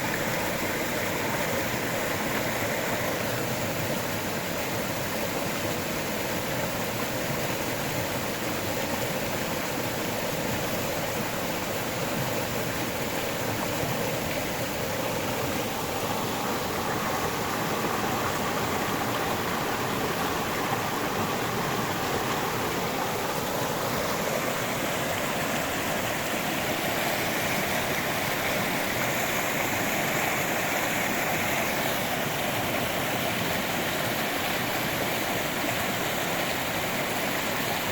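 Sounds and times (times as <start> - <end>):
river flowing over rocks: 0.0 - 37.9.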